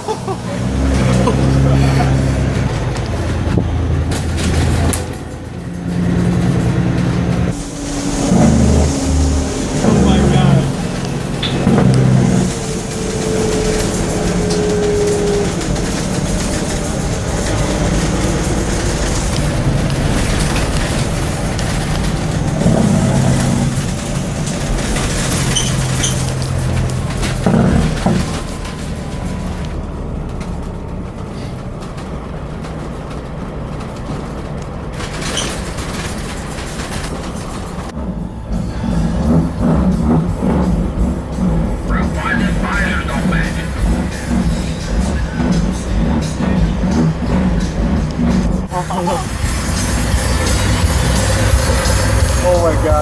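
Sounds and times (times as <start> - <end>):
truck engine rumbling: 0.0 - 53.0.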